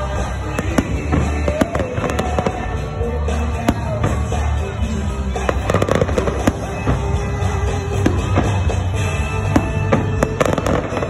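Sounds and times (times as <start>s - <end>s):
fireworks bangs and crackles: 0.0s - 11.0s
music with low bass: 0.0s - 11.0s.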